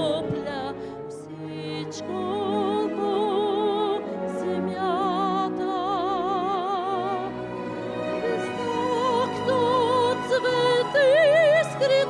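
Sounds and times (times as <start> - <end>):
woman singing opera: 0.0 - 7.4, 8.1 - 12.0.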